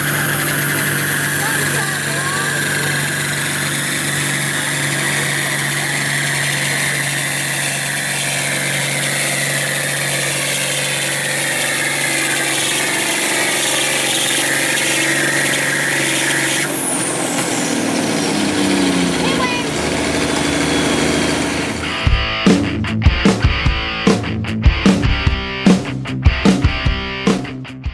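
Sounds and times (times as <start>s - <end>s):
tractor diesel engine running hard: 0.0s - 22.4s
tractor engine winding down: 0.0s - 23.0s.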